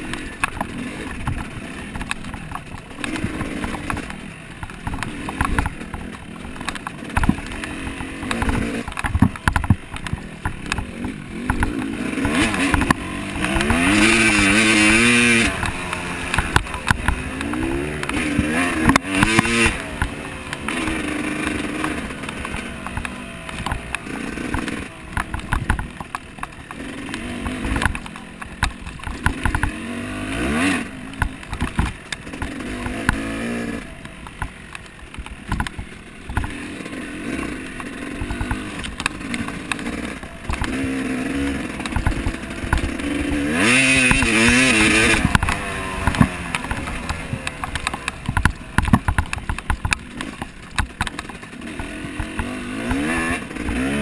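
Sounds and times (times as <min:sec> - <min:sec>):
motorcycle engine revving: 0:00.0 - 0:54.0
knocks and rattles: 0:00.4 - 0:30.3, 0:31.1 - 0:54.0.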